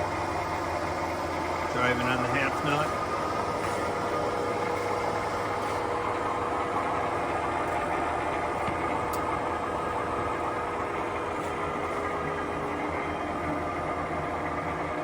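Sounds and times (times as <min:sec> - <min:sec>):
lathe gear-train hum: 0:00.0 - 0:15.0.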